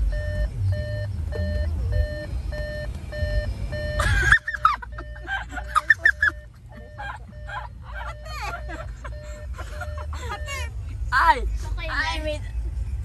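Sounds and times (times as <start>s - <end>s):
short electronic beeps: 0.1s - 10.7s.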